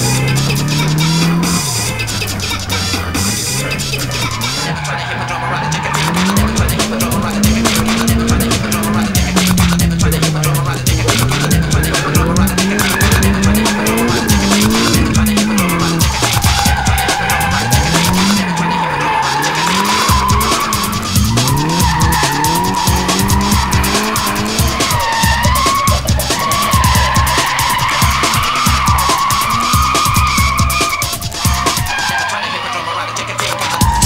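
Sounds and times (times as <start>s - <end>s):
music with steady beat: 0.0s - 4.6s, 5.6s - 32.1s, 33.6s - 34.0s
car engine running: 0.0s - 34.0s
car tyres squealing: 0.0s - 34.0s.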